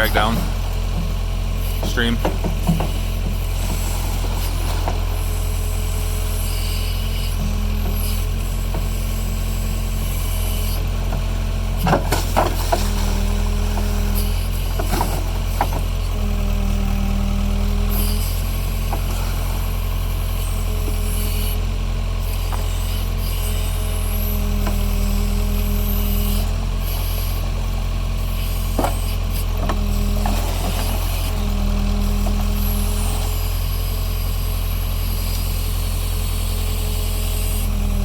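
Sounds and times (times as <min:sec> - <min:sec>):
diesel engine running: 0:00.0 - 0:38.0
hydraulic whine: 0:00.0 - 0:38.0.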